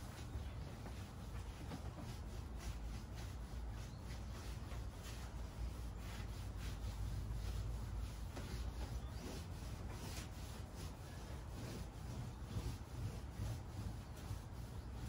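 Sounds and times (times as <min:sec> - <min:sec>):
broom sweeping vinyl floor: 0:00.0 - 0:15.0
low steady hum: 0:00.0 - 0:15.0.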